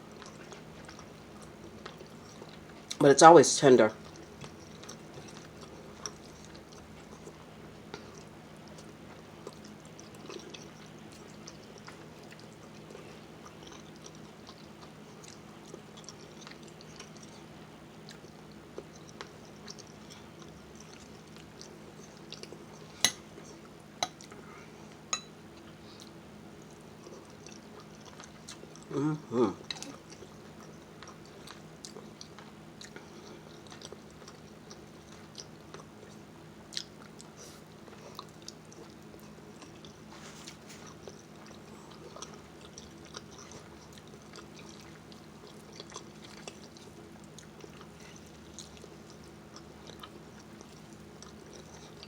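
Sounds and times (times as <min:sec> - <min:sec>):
soft chewing: 0:00.0 - 0:03.1, 0:03.8 - 0:52.0
faint hiss and hum: 0:00.0 - 0:52.0.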